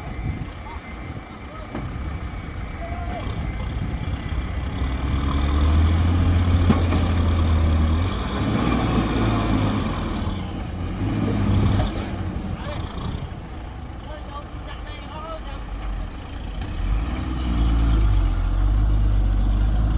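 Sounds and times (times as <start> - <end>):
heavy diesel engines revving: 0.0 - 19.9.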